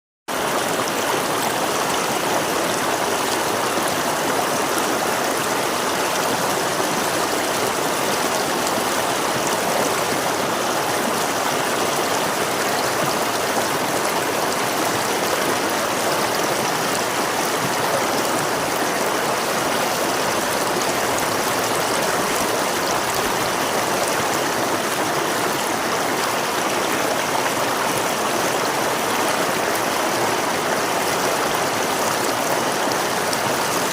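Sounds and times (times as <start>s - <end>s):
water rushing over rocks: 0.3s - 33.9s.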